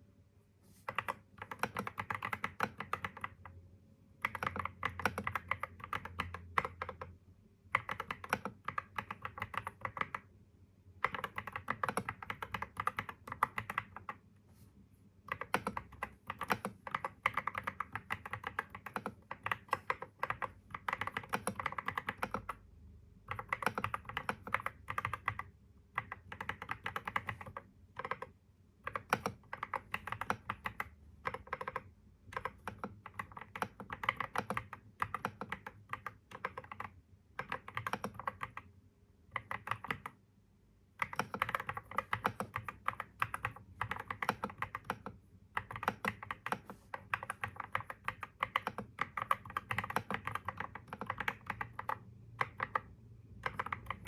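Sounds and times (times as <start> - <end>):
typing on computer keyboard: 0.8 - 3.6, 4.2 - 10.3, 11.0 - 14.2, 15.3 - 38.7, 39.3 - 40.2, 41.0 - 54.0.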